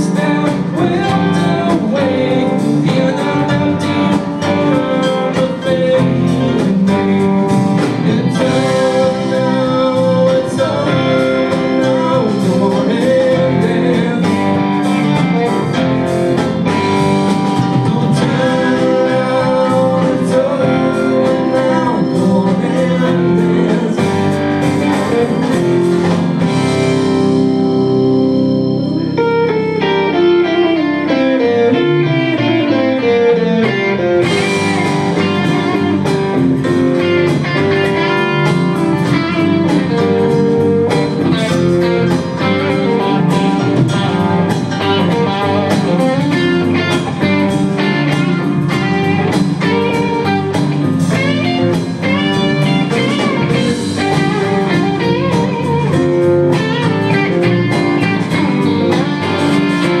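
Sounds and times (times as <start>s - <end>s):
double bass: 0.0s - 60.0s
drums: 0.0s - 60.0s
electric guitar: 0.0s - 60.0s
keyboard: 0.0s - 60.0s.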